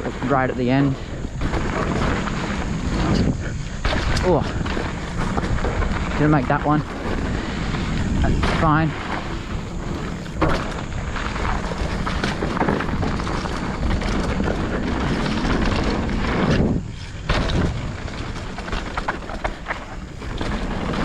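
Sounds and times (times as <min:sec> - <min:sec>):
bike rattling: 0:00.0 - 0:21.0
bike tyres rumbling over dirt: 0:00.0 - 0:21.0
wind rushing over microphone: 0:00.0 - 0:21.0.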